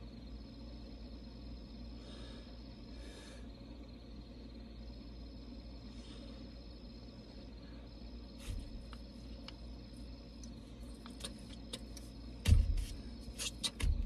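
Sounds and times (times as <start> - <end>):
low cabin hum: 0.0 - 14.0.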